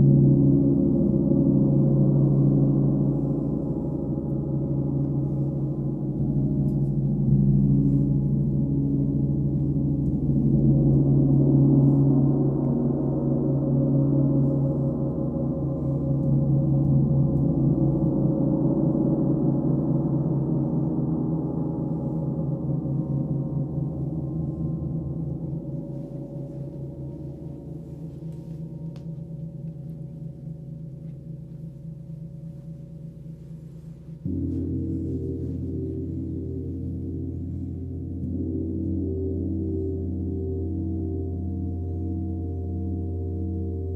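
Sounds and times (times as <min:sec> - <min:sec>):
deep sustained ringing tones: 0:00.0 - 0:43.9.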